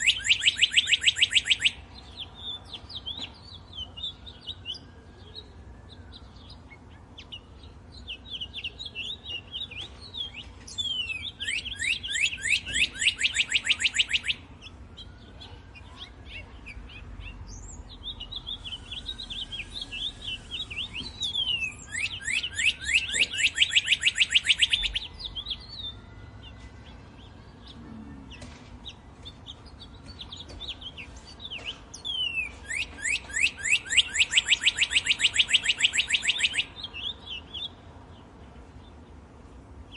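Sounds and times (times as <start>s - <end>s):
faint rising and falling bird calls: 0.0s - 39.9s
songbirds chirping: 0.0s - 39.9s
loud rapid bird trills: 5.9s - 39.2s.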